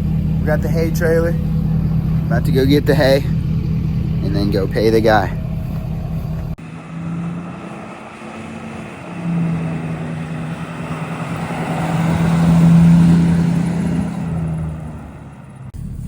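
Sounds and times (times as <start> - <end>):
truck engine humming: 0.0 - 16.0.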